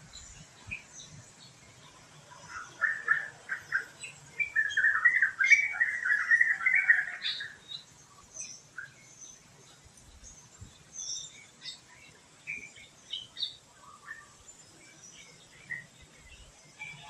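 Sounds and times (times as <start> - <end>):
faint high bird chirps: 0.0 - 17.0.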